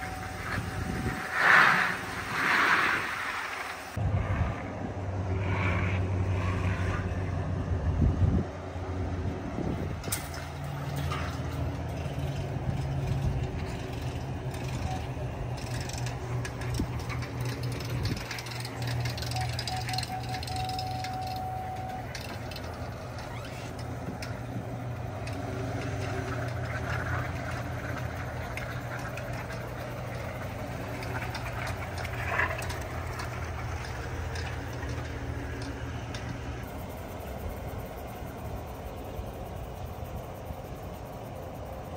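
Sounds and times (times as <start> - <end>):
truck engine idling: 3.9 - 41.9.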